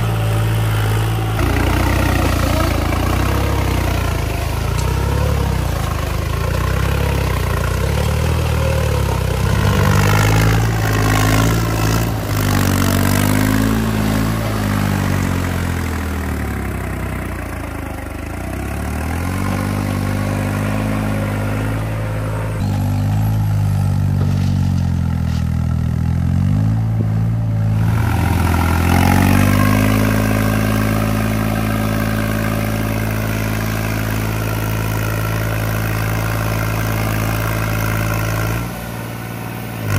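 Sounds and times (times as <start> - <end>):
tractor diesel engine under load: 0.0 - 39.9
tyres churning through mud: 0.0 - 39.9.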